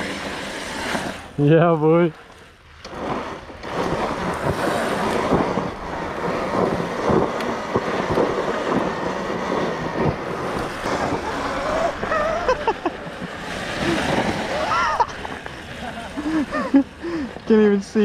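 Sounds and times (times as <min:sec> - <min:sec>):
wind on microphone: 0:02.7 - 0:18.0
tyre churning through sand: 0:02.9 - 0:18.0.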